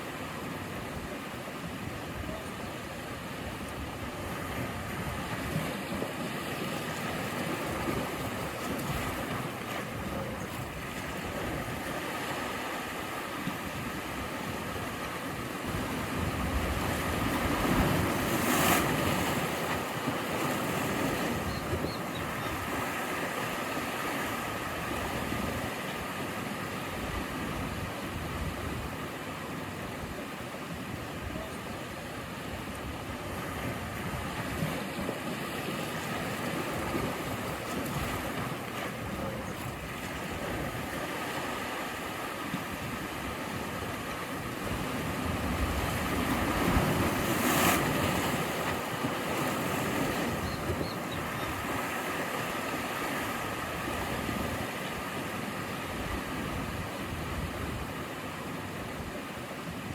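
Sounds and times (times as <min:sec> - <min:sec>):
waves washing on shore: 0:00.0 - 0:59.9.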